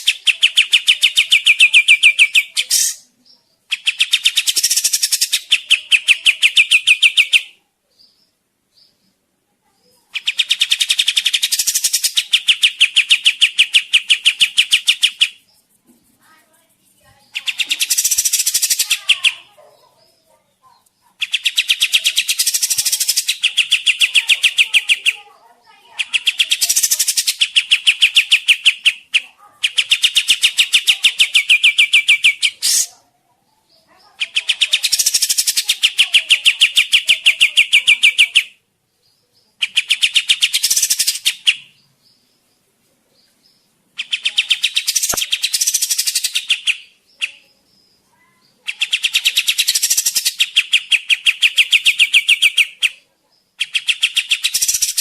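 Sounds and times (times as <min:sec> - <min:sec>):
songbird singing fast trills: 0:00.0 - 0:09.1, 0:10.1 - 0:15.7, 0:17.2 - 0:19.5, 0:20.8 - 0:25.1, 0:25.7 - 0:33.0, 0:33.6 - 0:55.0.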